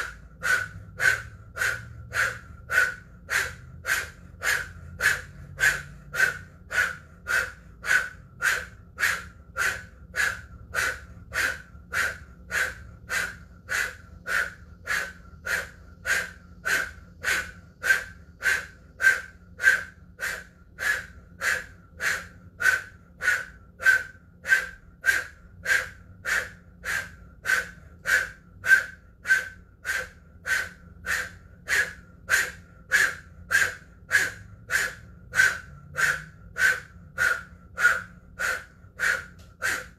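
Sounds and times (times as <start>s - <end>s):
forceful short breaths: 0.0s - 39.9s.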